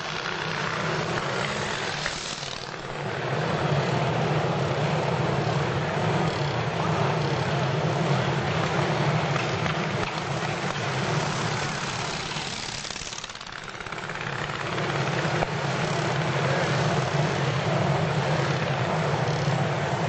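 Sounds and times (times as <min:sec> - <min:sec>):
motorcycle engines at speed: 0:00.0 - 0:20.0.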